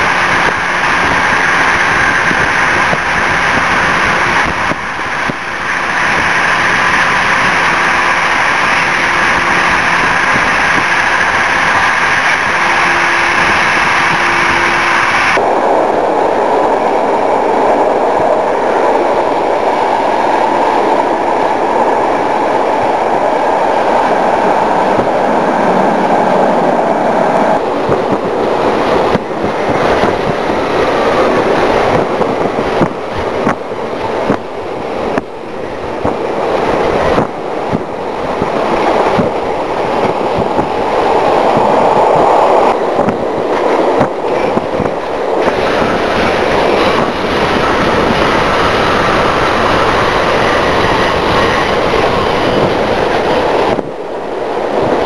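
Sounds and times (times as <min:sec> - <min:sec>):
train wheels rumbling inside carriage: 0:00.0 - 0:55.0.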